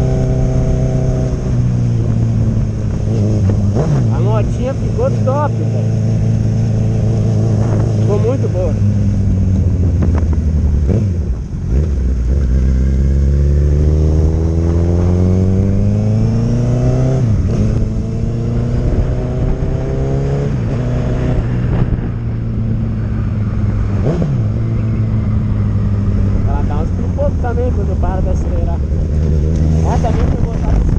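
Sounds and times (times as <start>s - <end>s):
motorcycle engine idling and revving: 0.0s - 30.9s.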